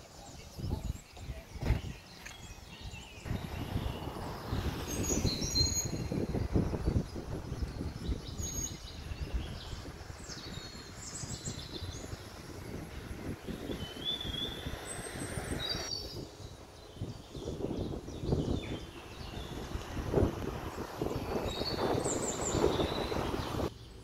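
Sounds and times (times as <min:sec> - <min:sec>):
bird chirps: 0:00.0 - 0:19.9, 0:20.7 - 0:24.0.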